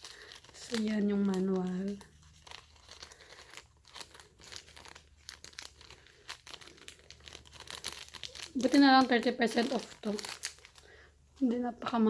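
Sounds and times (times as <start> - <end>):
paper and cardboard rustling: 0.0 - 10.8.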